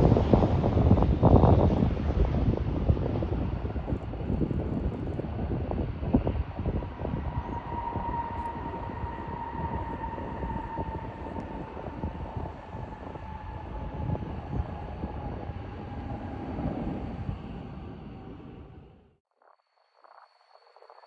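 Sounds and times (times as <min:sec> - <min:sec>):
jet airliner engines passing: 0:00.0 - 0:19.1.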